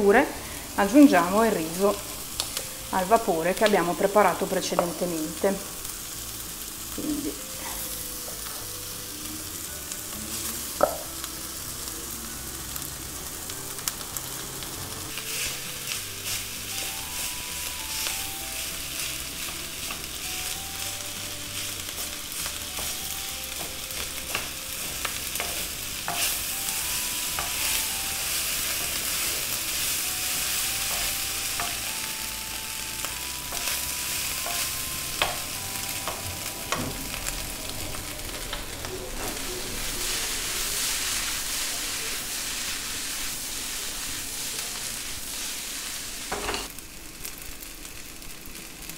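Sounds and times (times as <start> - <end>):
food sizzling in a wok: 0.0 - 48.9.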